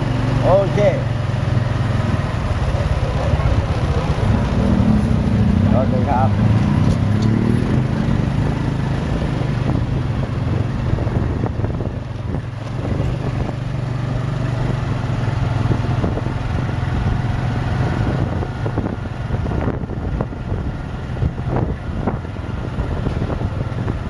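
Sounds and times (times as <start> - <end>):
small motorbike engine running: 0.0 - 24.0
street noise: 0.0 - 24.0
wind buffeting microphone: 1.2 - 24.0.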